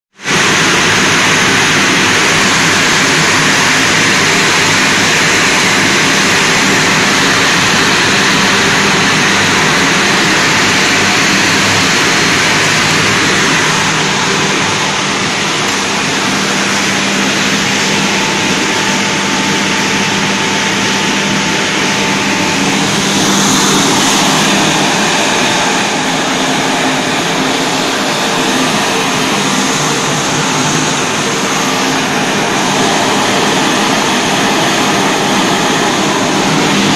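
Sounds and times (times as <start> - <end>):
low machine hum: 0.2 - 36.9.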